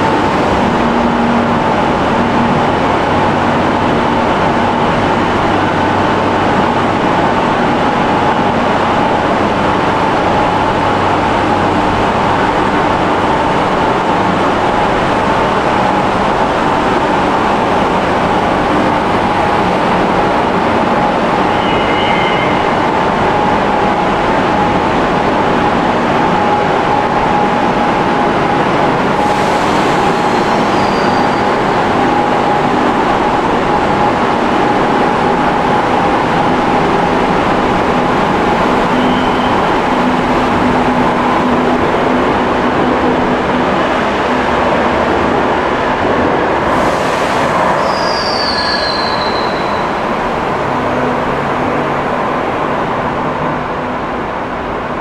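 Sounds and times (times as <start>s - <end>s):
train equipment humming: 0.0s - 46.8s.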